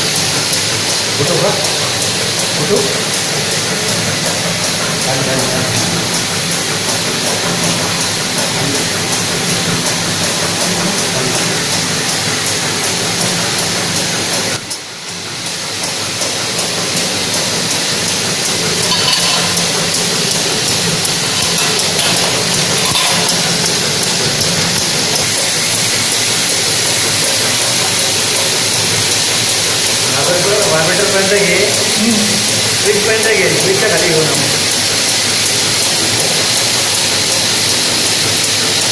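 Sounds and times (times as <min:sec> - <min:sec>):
packing machine hissing: 0:00.0 - 0:38.9.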